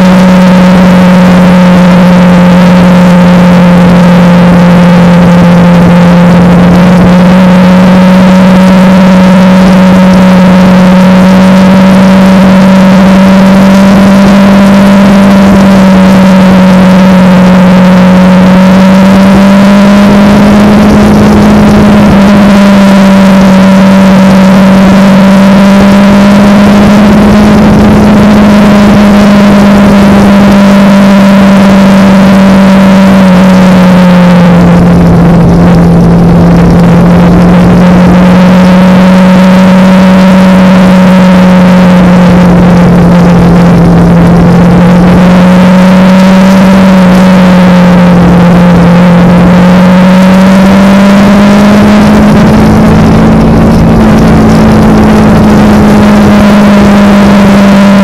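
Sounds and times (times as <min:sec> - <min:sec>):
motorcycle engine running: 0:00.0 - 0:58.0
rushing noise: 0:00.0 - 0:58.0.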